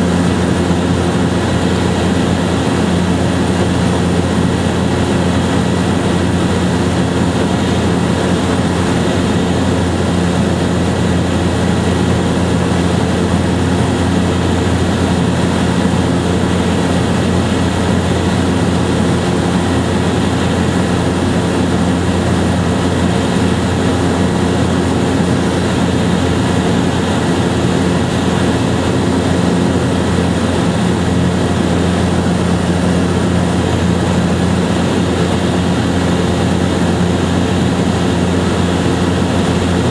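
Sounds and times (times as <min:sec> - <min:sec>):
engine drone with fixed tones: 0:00.0 - 0:39.9.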